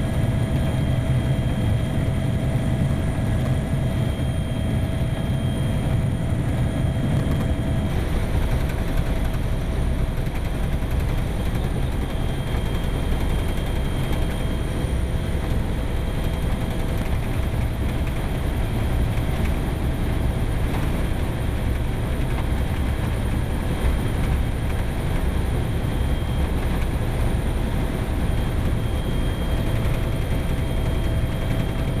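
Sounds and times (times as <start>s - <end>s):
faint whining tones: 0.0s - 32.0s.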